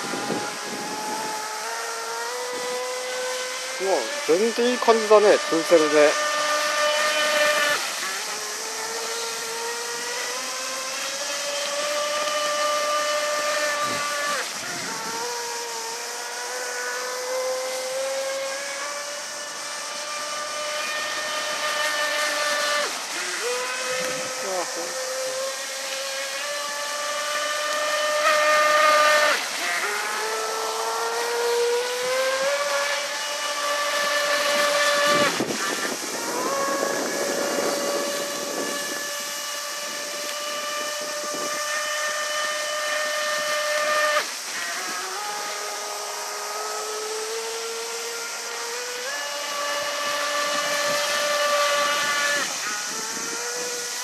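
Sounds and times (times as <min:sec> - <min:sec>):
high-pitched electric motor whine: 0:00.0 - 0:54.0
water spray hiss: 0:00.0 - 0:54.0.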